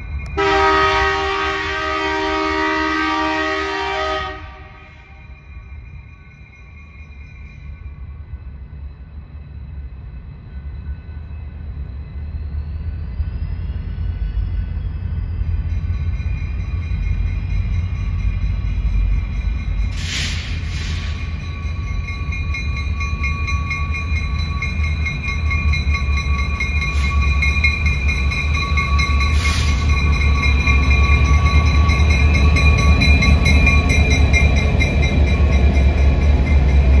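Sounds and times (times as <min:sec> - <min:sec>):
diesel locomotives approaching: 0:00.0 - 0:37.0.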